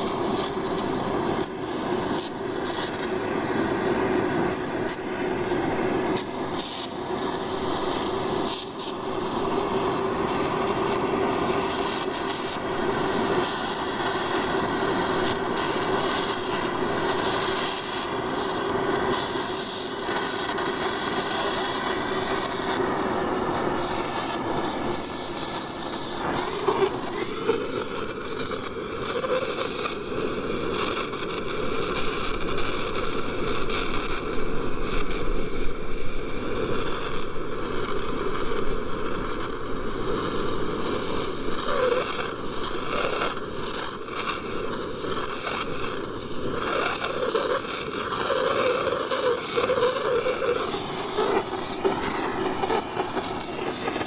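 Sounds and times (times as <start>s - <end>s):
torch flame hissing: 0.0s - 54.0s.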